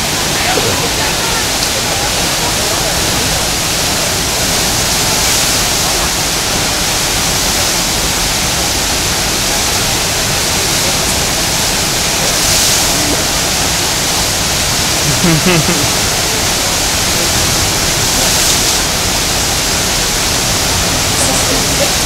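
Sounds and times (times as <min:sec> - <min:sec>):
whitewater rushing loudly: 0:00.0 - 0:22.0.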